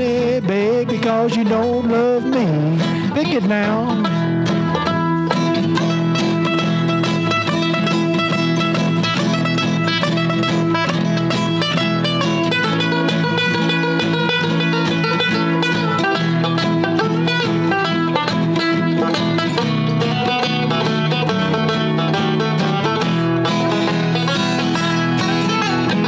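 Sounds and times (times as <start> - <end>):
acoustic guitar: 0.0 - 26.0
banjo picking: 0.0 - 26.0.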